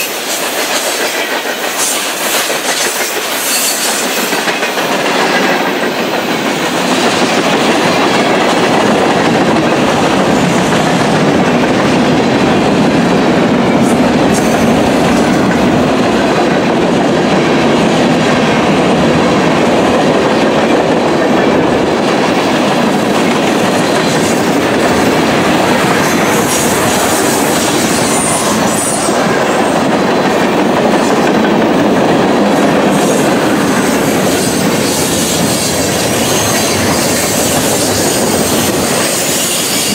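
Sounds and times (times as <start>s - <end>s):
freight train rumbling past: 0.0s - 39.9s
steel wheels clattering on rails: 0.0s - 39.9s.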